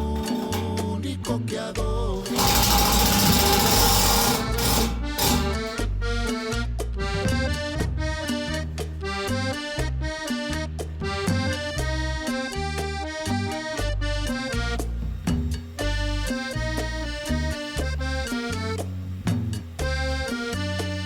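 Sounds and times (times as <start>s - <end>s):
accordion-led song: 0.0s - 21.0s
pulsing bass line: 0.0s - 21.0s.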